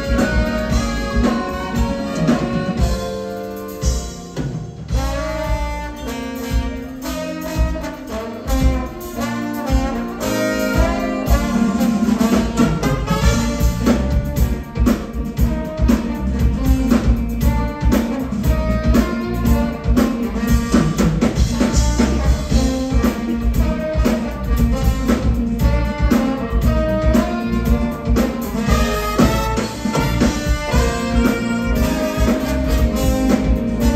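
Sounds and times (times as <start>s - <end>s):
live band playing: 0.0s - 33.9s
steady drum beat: 0.0s - 33.9s.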